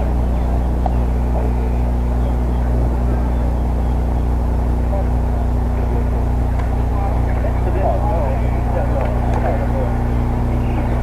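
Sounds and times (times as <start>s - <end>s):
faint distant voices: 0.0s - 11.0s
loud low hum: 0.0s - 11.0s.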